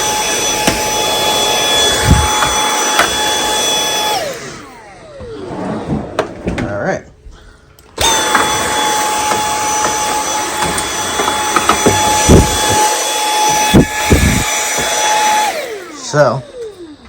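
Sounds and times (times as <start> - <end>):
handheld vacuum motor whine: 0.0 - 5.4, 8.0 - 17.0.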